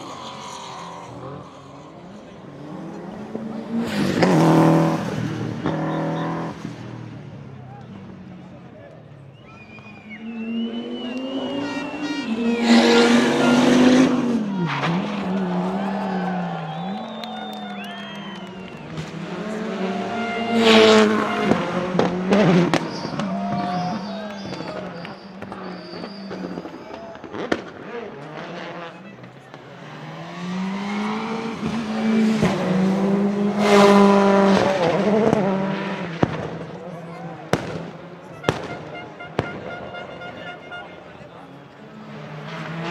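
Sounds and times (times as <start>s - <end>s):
car rushing past: 0.0s - 8.5s, 9.4s - 39.7s.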